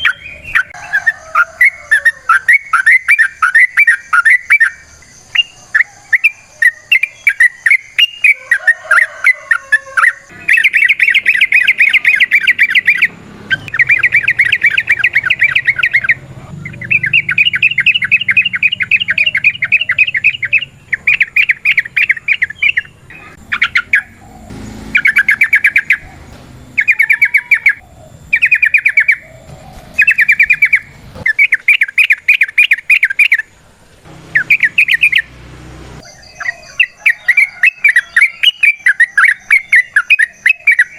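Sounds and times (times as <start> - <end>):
bird singing rapid chirps: 0.0 - 40.9.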